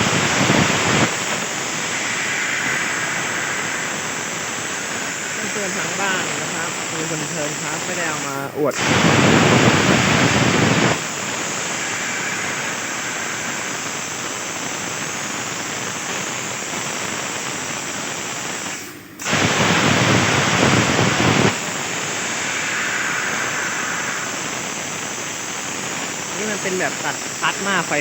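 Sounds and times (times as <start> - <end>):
plasma cutter torch hissing: 0.0 - 28.0.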